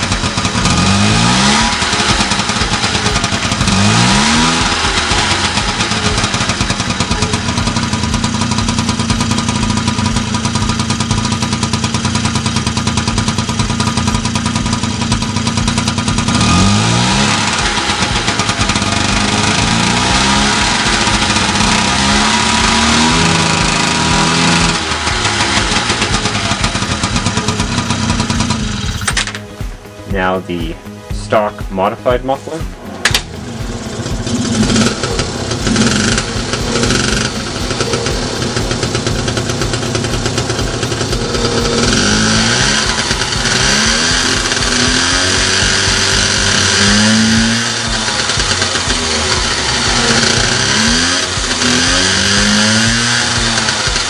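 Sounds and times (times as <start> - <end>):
moped engine revving: 0.0 - 54.0.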